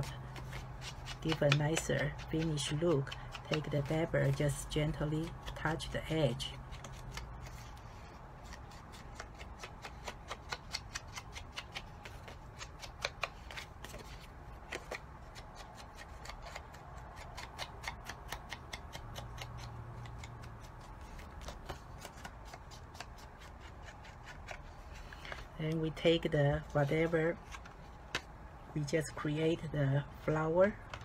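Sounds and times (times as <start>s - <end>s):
paper rustling: 0.0s - 5.8s, 6.5s - 18.6s, 19.4s - 25.8s, 26.6s - 28.3s.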